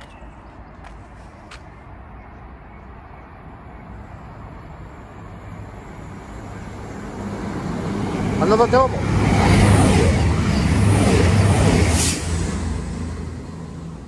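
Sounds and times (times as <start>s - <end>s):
train approaching rumble: 2.7s - 14.0s.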